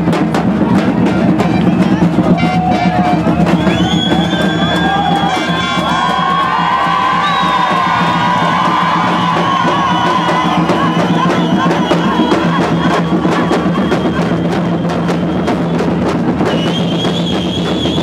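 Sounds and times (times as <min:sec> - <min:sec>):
higher drums quick hits: 0:00.0 - 0:18.0.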